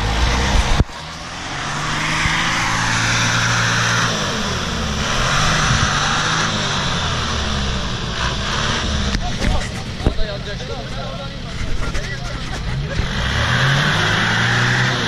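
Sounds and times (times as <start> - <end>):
diesel engine running under load: 0.0 - 14.3.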